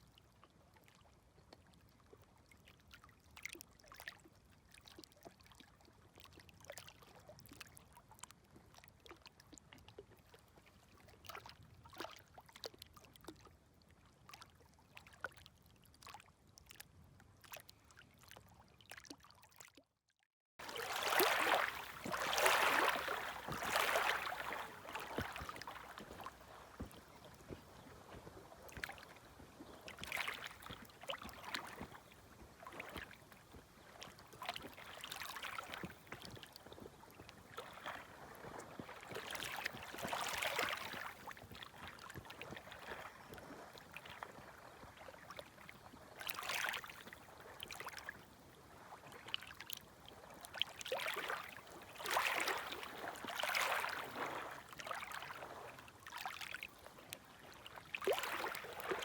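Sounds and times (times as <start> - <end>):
small waves lapping at shore: 0.0 - 19.8, 20.6 - 59.0.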